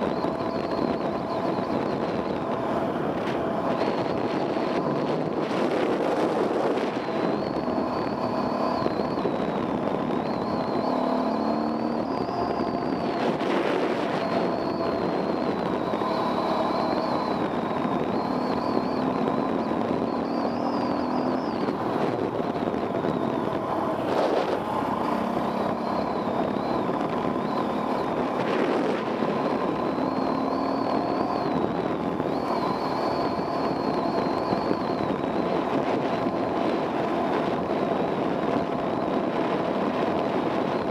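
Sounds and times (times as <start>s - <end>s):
high whine: 0.0s - 40.9s.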